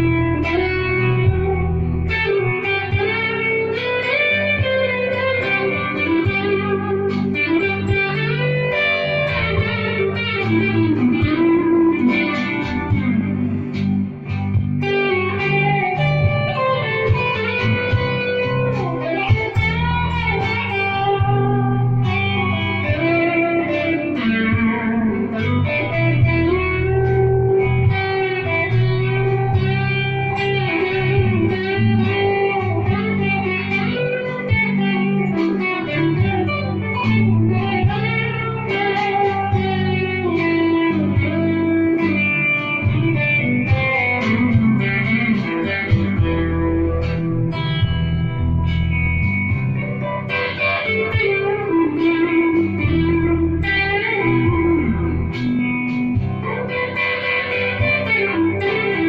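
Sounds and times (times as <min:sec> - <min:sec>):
solo electric guitar: 0:00.0 - 0:59.0.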